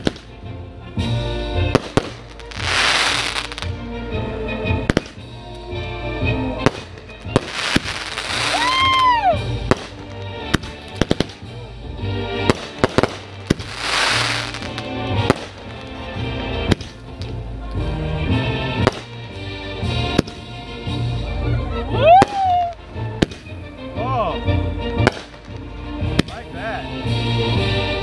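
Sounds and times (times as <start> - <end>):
firework bangs and crackling: 0.0 - 3.9, 4.6 - 21.2, 21.9 - 23.8, 24.9 - 28.0
music: 0.0 - 28.0.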